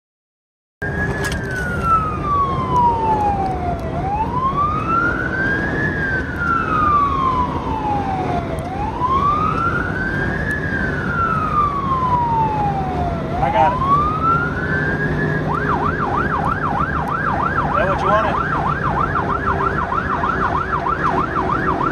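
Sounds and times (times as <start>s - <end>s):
emergency vehicle siren wailing: 0.8s - 21.9s
road rumble inside moving vehicle: 0.8s - 21.9s.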